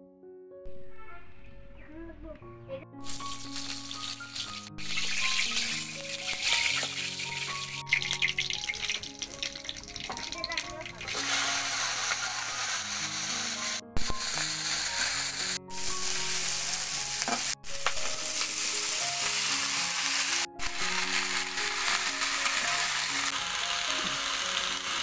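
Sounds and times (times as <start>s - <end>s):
vegetables sizzling in hot oil: 3.0s - 25.0s.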